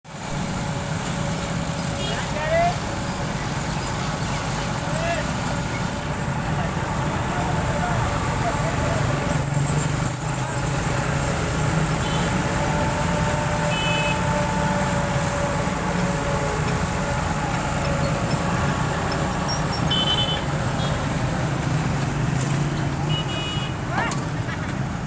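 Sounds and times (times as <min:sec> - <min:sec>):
heavy vehicle engines running: 0:00.0 - 0:25.0.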